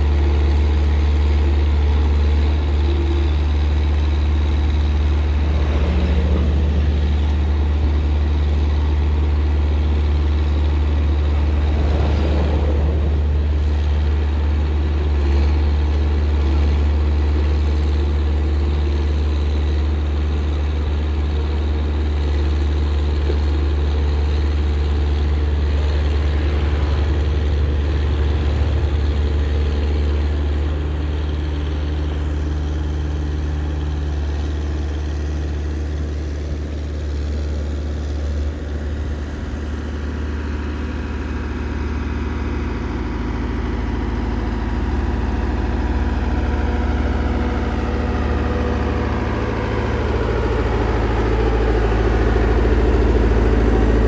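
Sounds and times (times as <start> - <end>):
large engine idling: 0.0 - 54.0.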